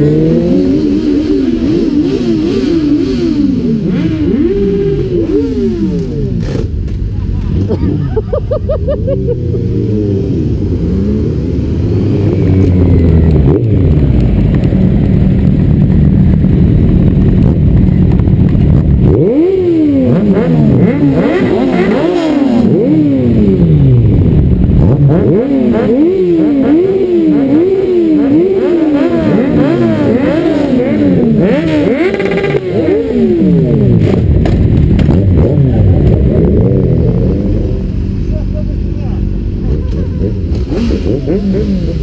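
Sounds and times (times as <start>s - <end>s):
motorcycle engines idling: 0.0s - 42.0s
motorcycle engines revving: 0.0s - 42.0s.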